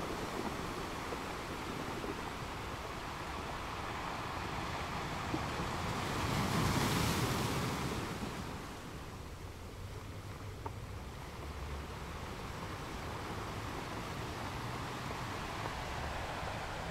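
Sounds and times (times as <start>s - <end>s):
sea waves washing: 0.0s - 9.9s, 10.6s - 16.9s.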